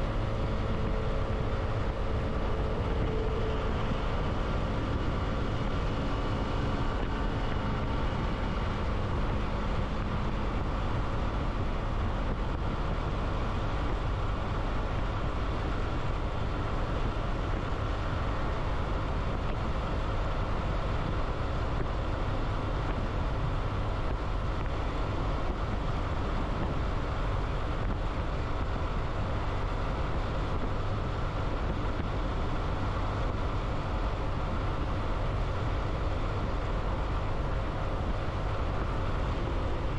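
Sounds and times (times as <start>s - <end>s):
vehicle engine and road rumble: 0.0s - 39.9s
wind noise: 0.0s - 39.9s.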